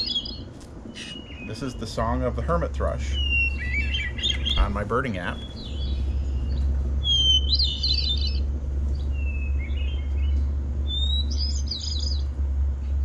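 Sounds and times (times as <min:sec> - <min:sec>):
bird song through phone speaker: 0:00.0 - 0:12.3
low rumble: 0:00.0 - 0:13.0.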